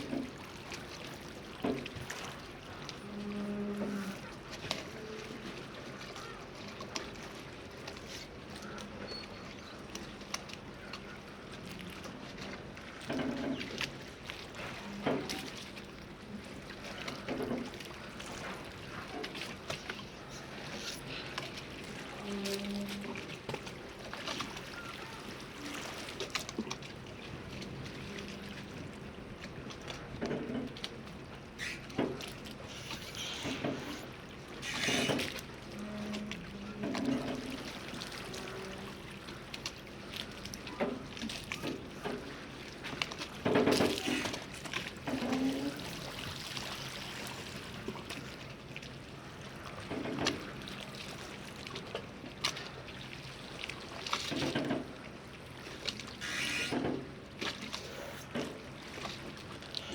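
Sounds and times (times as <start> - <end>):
water lapping and sloshing: 0.0 - 59.9
water splashes: 0.0 - 59.9.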